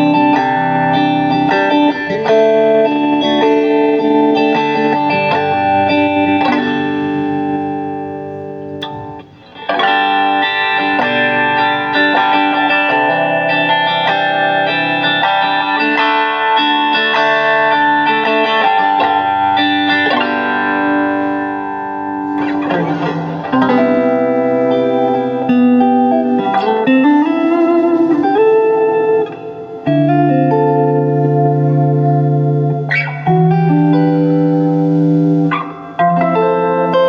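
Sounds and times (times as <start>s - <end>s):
guitar ringing chords: 0.0s - 37.0s.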